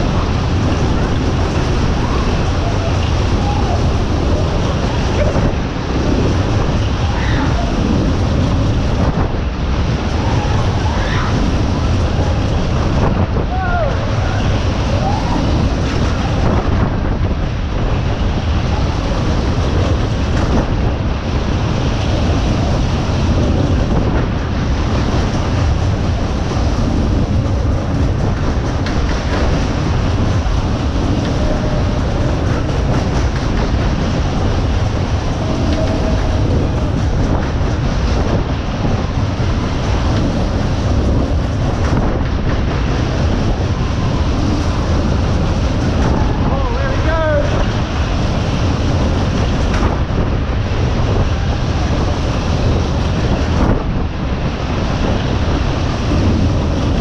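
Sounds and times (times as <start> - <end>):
fairground ride rumbling and rattling: 0.0 - 57.0.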